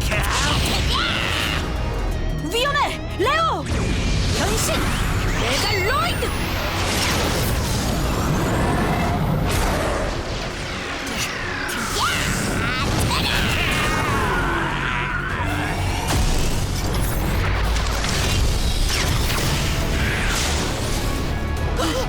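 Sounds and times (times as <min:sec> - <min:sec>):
dramatic action music: 0:00.0 - 0:22.0.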